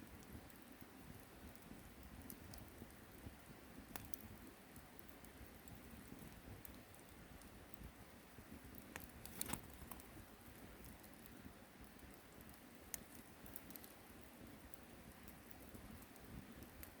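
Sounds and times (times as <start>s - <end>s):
campfire crackling and popping: 0.0s - 17.0s
low hiss: 0.0s - 17.0s.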